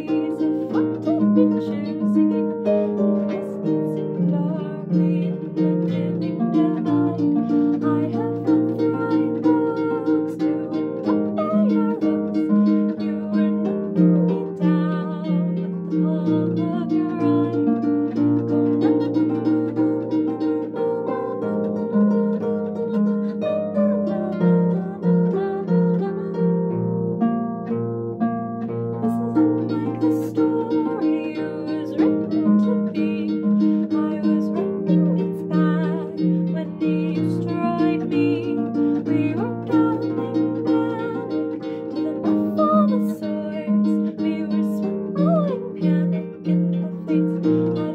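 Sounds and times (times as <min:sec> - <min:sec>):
woman singing: 0:00.0 - 0:26.9, 0:28.9 - 0:47.9
harp playing: 0:00.0 - 0:47.9.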